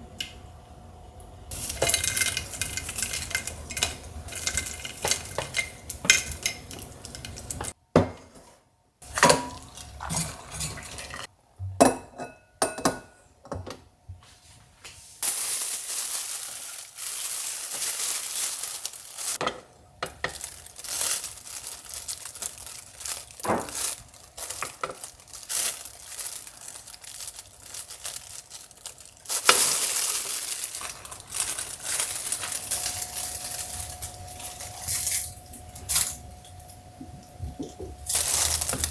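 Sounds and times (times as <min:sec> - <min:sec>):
steady sizzling hiss: 0:00.0 - 0:07.8, 0:15.2 - 0:38.9
utensils clinking on pots: 0:01.5 - 0:08.4, 0:09.0 - 0:13.8, 0:15.2 - 0:38.9.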